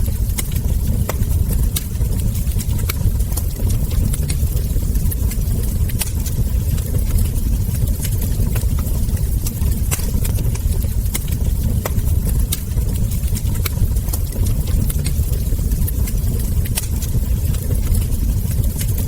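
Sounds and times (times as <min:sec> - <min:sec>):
fire crackles and ember pops: 0:00.0 - 0:19.0
wood fire rumbling: 0:00.0 - 0:19.0.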